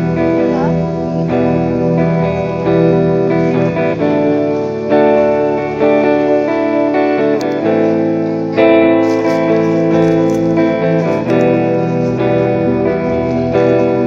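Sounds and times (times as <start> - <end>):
plucked string instrumental music: 0.0 - 14.0.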